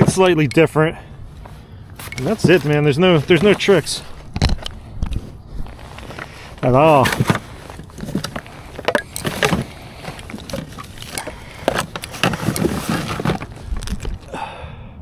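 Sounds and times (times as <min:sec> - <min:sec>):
gear knocking and clunking: 0:01.4 - 0:14.3.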